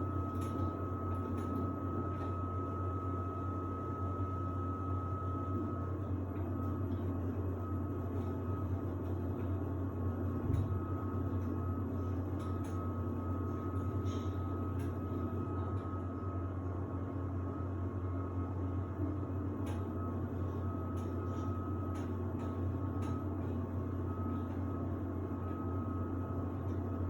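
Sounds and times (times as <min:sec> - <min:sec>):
washer-dryer running: 0:00.0 - 0:27.0.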